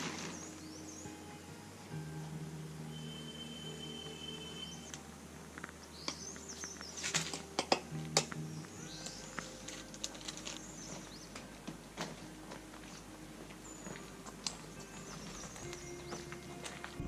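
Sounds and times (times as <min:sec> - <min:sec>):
birds chirping: 0:00.0 - 0:17.0
soft background music: 0:00.0 - 0:17.0.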